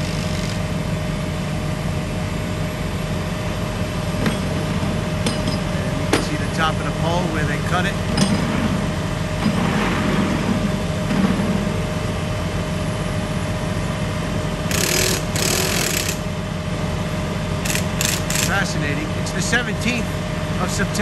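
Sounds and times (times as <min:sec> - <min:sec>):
truck engines pulsing drone: 0:00.0 - 0:21.0.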